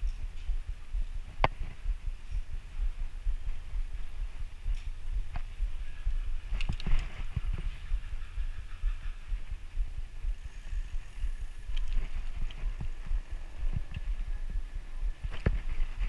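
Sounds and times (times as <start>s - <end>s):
bicycle ride vibration rumble: 0.0s - 16.0s
wind buffeting microphone: 0.0s - 16.0s.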